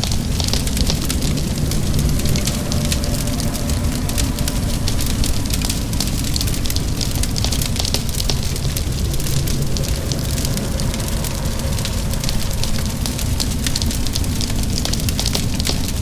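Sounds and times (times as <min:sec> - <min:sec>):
low continuous rumble: 0:00.0 - 0:16.0
rain pattering: 0:00.0 - 0:16.0
wood fire crackling: 0:00.0 - 0:16.0.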